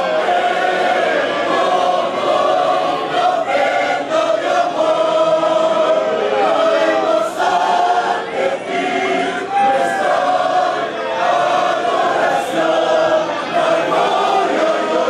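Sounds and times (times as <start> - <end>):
mixed choir singing a hymn: 0.0 - 15.0.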